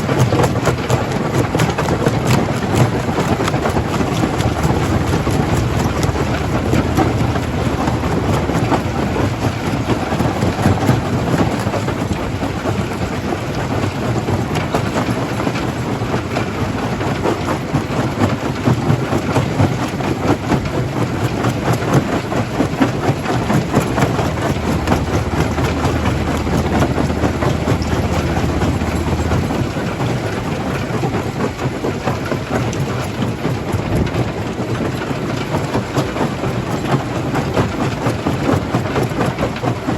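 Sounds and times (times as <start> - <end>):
low machine hum: 0.0 - 34.2.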